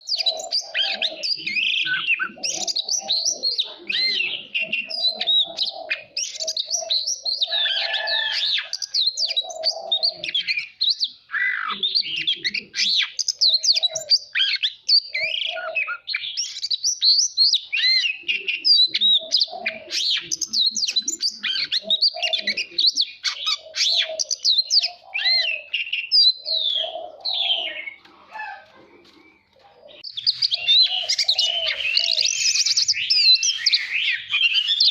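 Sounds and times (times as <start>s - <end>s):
magpie-robin singing: 0.0s - 34.9s.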